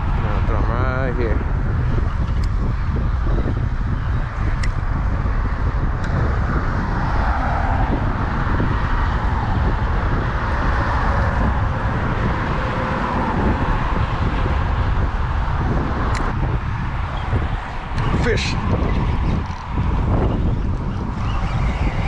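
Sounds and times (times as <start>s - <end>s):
road traffic: 0.0s - 22.0s
wind: 0.0s - 22.0s.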